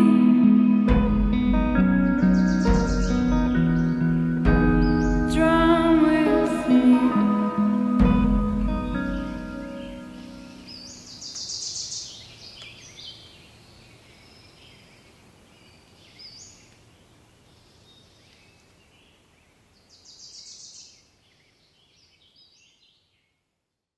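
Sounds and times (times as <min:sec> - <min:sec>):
faint outdoor hiss: 0:00.0 - 0:23.9
songbirds singing: 0:00.6 - 0:23.4.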